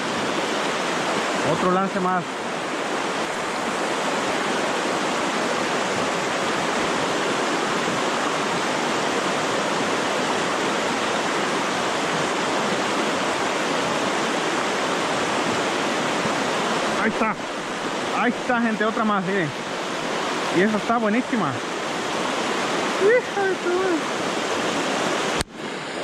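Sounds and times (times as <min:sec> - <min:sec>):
river rapids rushing over rocks: 0:00.0 - 0:26.0.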